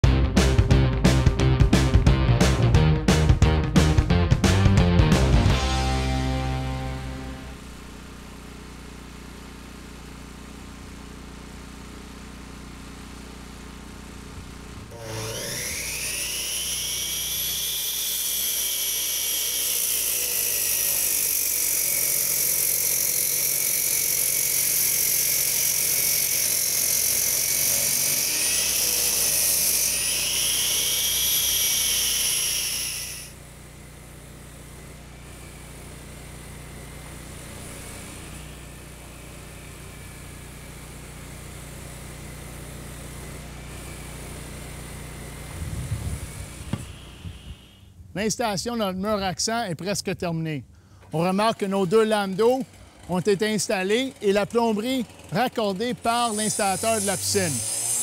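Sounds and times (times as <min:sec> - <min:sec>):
masonry saw cutting concrete: 0:05.2 - 0:47.9, 0:51.0 - 0:58.0.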